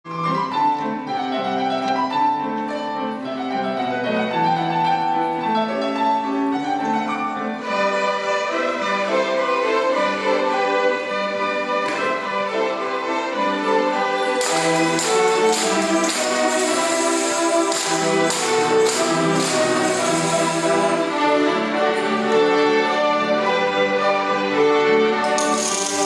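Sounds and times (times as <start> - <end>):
violin ensemble melody: 0.0 - 26.0
piano accompaniment: 0.1 - 26.0.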